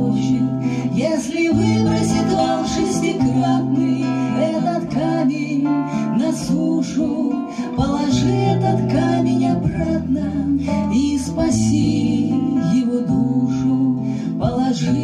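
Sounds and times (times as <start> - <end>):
strummed acoustic guitar: 0.0 - 15.0
women singing together: 0.0 - 15.0.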